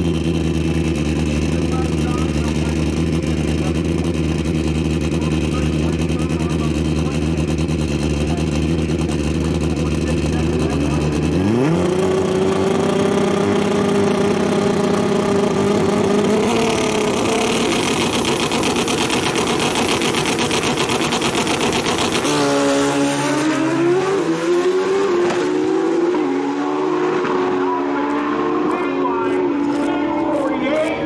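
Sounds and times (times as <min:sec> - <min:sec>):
motorcycle engines revving: 0:00.0 - 0:31.0
stuttering engine rasp: 0:00.0 - 0:31.0.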